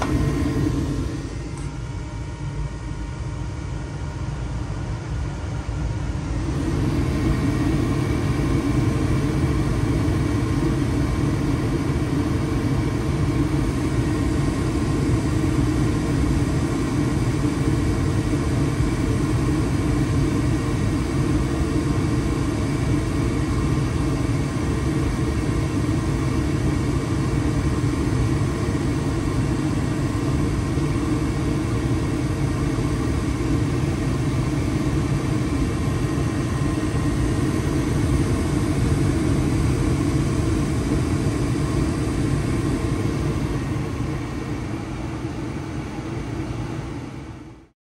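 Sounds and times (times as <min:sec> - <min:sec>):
gas furnace rumbling: 0:00.0 - 0:47.7.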